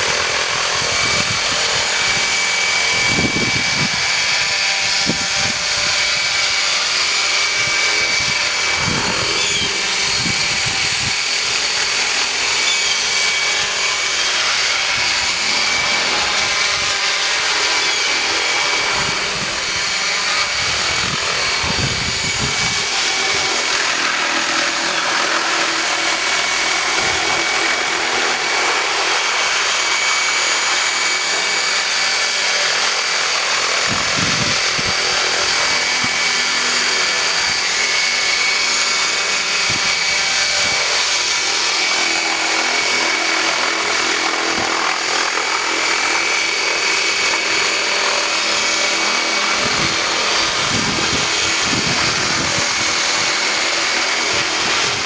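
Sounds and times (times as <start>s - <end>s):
rc helicopter whine: 0.0s - 55.0s
rotor blade rush: 0.0s - 55.0s.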